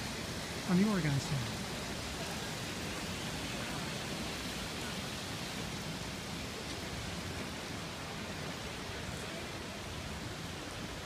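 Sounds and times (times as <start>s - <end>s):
waterfall pouring: 0.0s - 11.0s.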